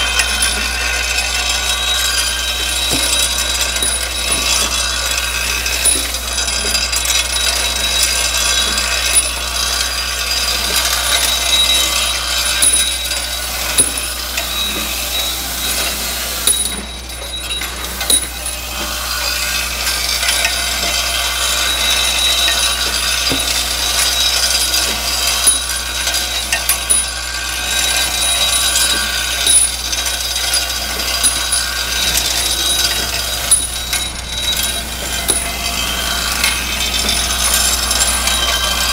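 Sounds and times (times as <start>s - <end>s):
bolts clattering on steel chute: 0.0s - 38.9s
steady low machine hum: 0.0s - 38.9s.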